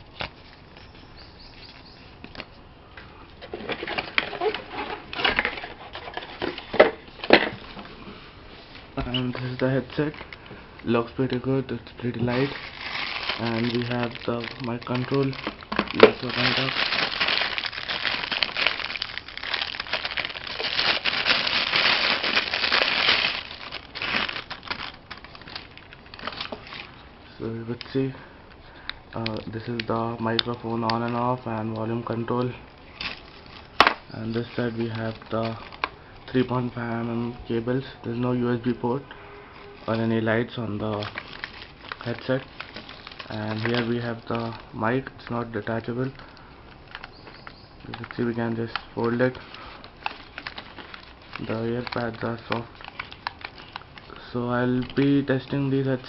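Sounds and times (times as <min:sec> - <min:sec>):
packaging rustling and crinkling: 0:03.4 - 0:27.1, 0:29.2 - 0:37.9, 0:39.6 - 0:56.0.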